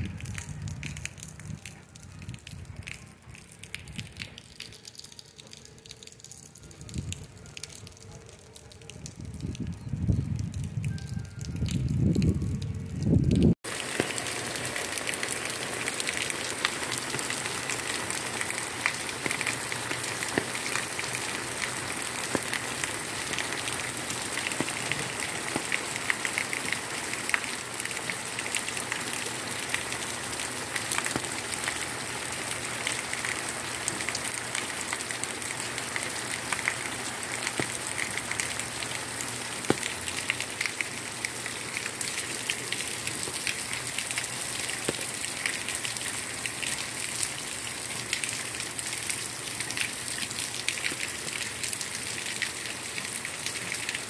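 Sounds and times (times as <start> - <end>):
rain on pavement: 0.0 - 54.0
raindrops ticking close by: 0.0 - 54.0.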